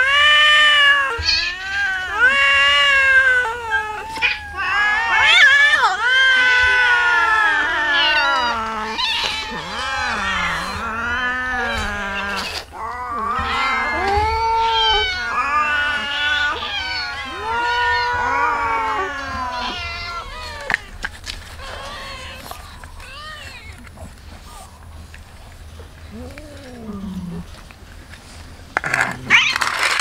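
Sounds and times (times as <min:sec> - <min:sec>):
cats meowing and yowling: 0:00.0 - 0:27.7, 0:28.8 - 0:30.0.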